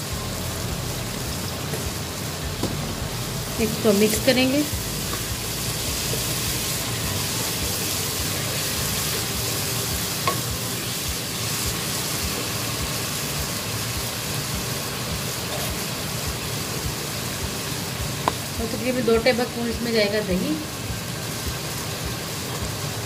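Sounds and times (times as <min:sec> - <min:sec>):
onions and spices sizzling in oil: 0:00.0 - 0:23.0.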